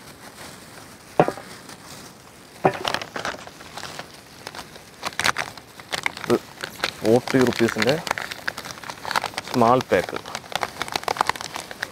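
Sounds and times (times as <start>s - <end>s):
wrappers crinkling and tearing: 0.0s - 11.9s.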